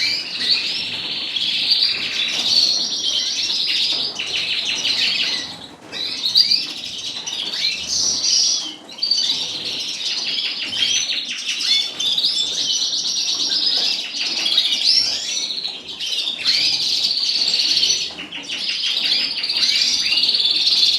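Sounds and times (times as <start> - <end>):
cage birds singing and chirping: 0.0 - 20.9.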